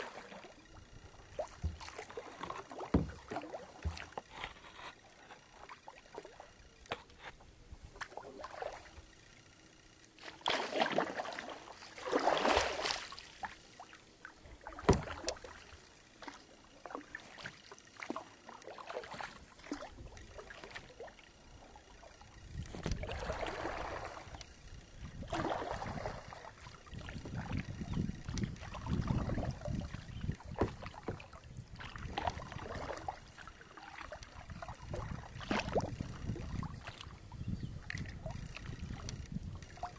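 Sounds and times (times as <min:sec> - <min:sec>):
paddle strokes splashing water: 0:00.0 - 0:39.9.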